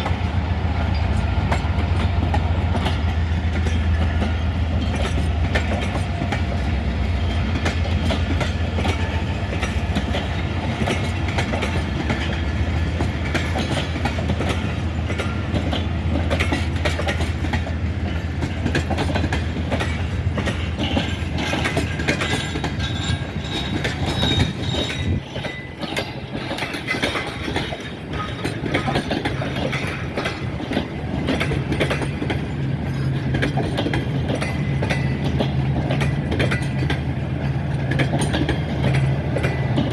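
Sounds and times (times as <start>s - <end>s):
train wheels clattering on rail joints: 0.0s - 39.9s.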